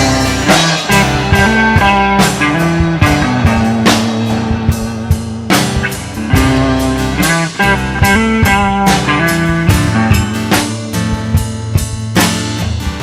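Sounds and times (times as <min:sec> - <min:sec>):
bass guitar: 0:00.0 - 0:13.0
drum kit beat: 0:00.0 - 0:13.0
electric and acoustic guitars: 0:00.0 - 0:13.0.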